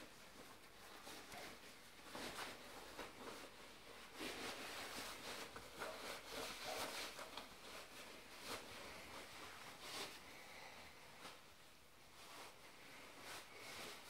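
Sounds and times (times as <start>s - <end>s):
trouser fabric rustling: 0.0s - 14.0s.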